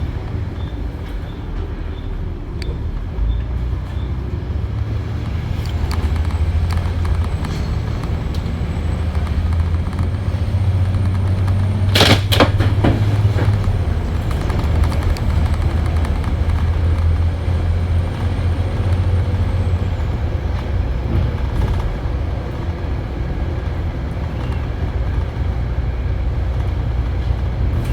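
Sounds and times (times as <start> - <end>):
bus diesel engine pulling: 0.0 - 27.9.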